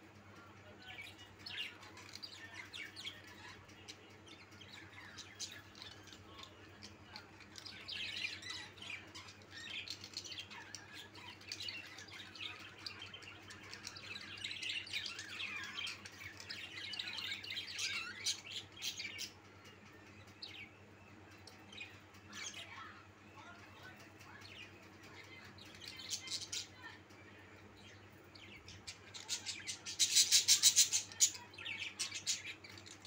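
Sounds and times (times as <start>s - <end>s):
budgerigars chirping and chattering: 0.4s - 33.0s.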